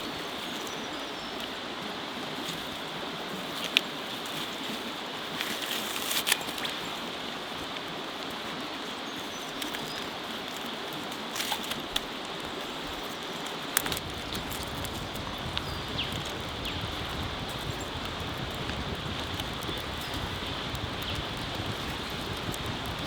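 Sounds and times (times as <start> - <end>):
creek water running: 0.0 - 23.0.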